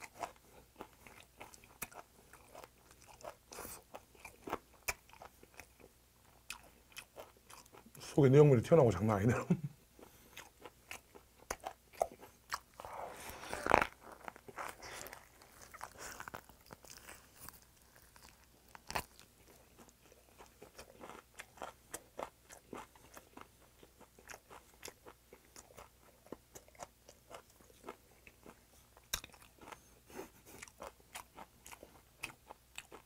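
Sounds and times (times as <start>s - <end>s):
person chewing crunchy food: 0.0s - 8.1s, 10.0s - 33.0s.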